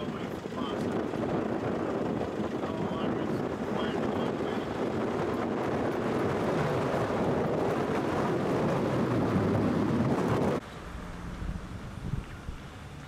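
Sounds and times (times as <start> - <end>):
moving vehicle engine and wind rush: 0.0 - 13.0.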